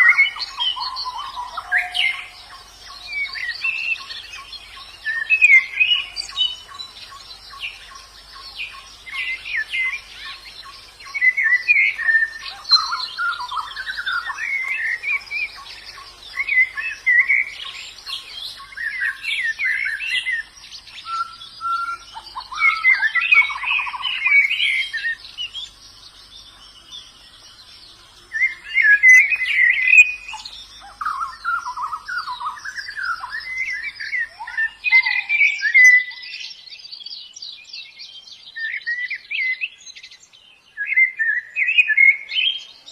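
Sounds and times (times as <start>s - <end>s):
birds twittering song: 0.0s - 42.9s.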